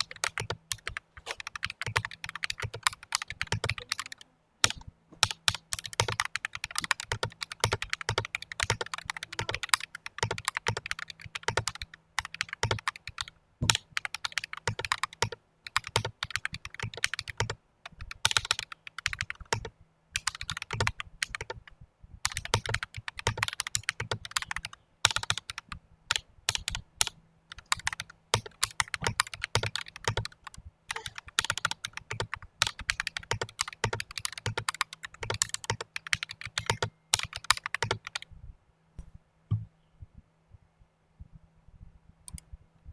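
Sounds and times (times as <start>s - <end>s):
mechanical keyboard typing: 0.0s - 38.3s.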